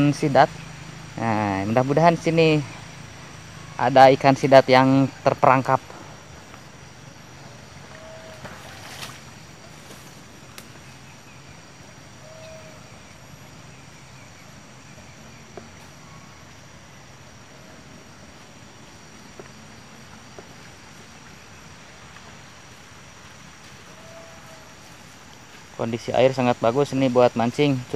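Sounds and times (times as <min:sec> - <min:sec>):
high-pitched insect drone: 0:00.0 - 0:27.9.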